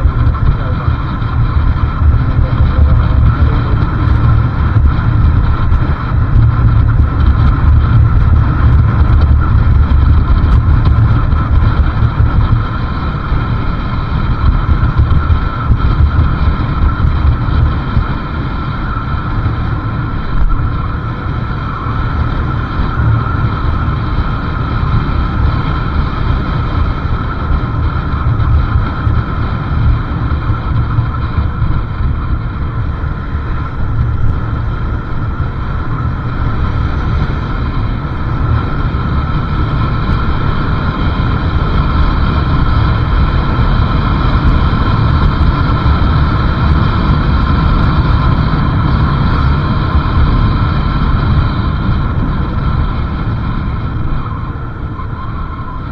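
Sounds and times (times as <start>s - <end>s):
motorcycle engine: 0.0s - 55.9s
road noise: 0.0s - 55.9s
wind buffeting microphone: 0.0s - 55.9s.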